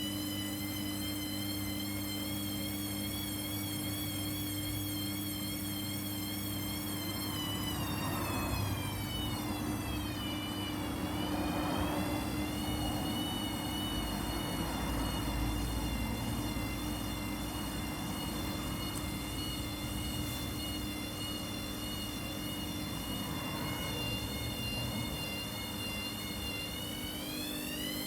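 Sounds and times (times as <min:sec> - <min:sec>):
washing machine spinning: 0:00.0 - 0:28.0.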